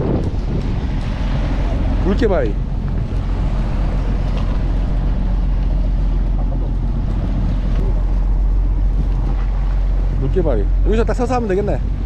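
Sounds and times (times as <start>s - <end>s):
boat engine droning: 0.0s - 12.0s
sea noise: 0.0s - 12.0s
wind: 0.0s - 12.0s.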